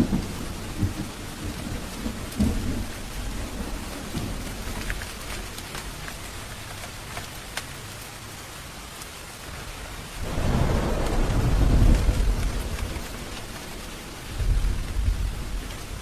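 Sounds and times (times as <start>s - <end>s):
thunder rumbling: 0.0s - 7.1s, 9.6s - 16.0s
steady rain falling: 0.0s - 16.0s.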